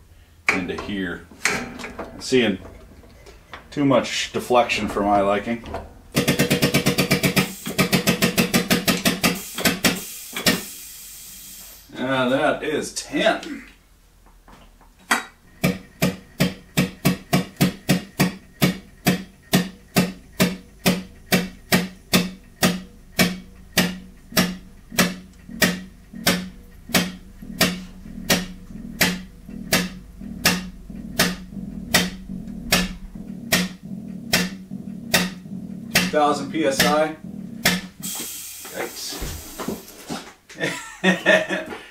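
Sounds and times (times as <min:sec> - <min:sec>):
hydraulic pump metallic clacks: 0:00.5 - 0:10.8, 0:15.0 - 0:38.9.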